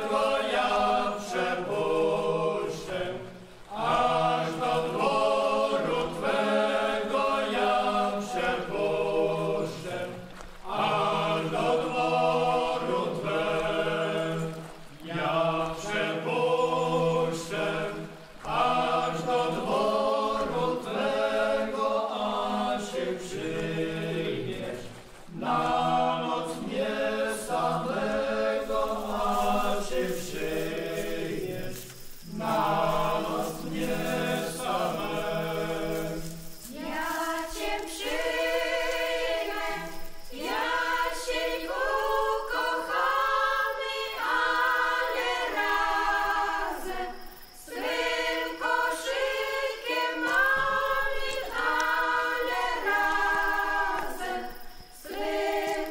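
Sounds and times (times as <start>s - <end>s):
men singing unaccompanied: 0.0s - 55.9s
women singing unaccompanied: 0.0s - 55.9s.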